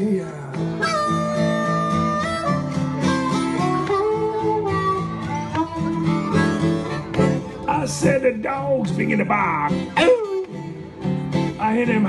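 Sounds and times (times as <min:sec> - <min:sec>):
acoustic guitar strumming: 0:00.3 - 0:12.0
blues harmonica: 0:00.6 - 0:11.8.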